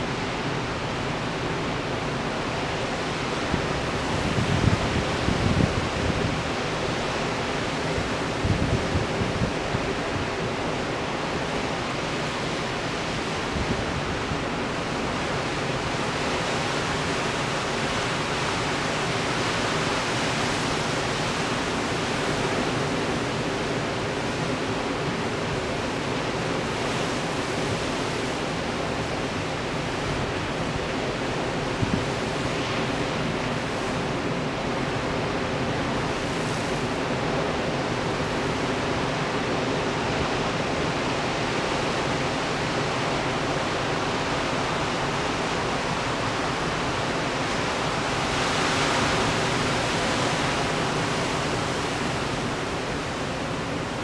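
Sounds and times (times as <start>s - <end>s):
heavy surf breaking over rocks: 0.0s - 54.0s.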